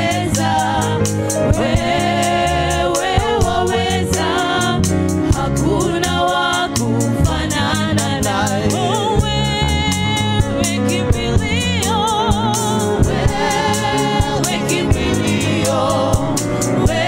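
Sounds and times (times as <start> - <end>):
backing singers: 0.0 - 10.2, 10.8 - 17.0
instrumental backing with bass: 0.0 - 17.0
woman singing lead: 0.0 - 17.0.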